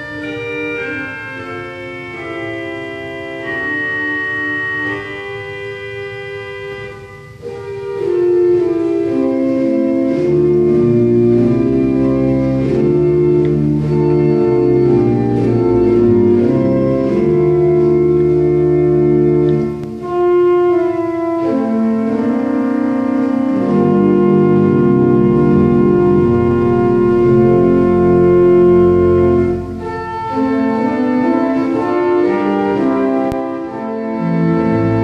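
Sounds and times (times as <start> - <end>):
pipe organ chords: 0.0 - 35.0.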